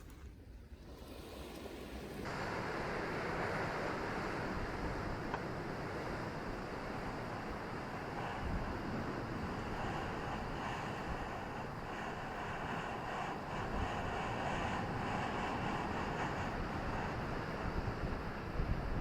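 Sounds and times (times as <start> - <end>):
waves breaking on beach: 0.9 - 19.0
wind buffeting microphone: 1.4 - 19.0.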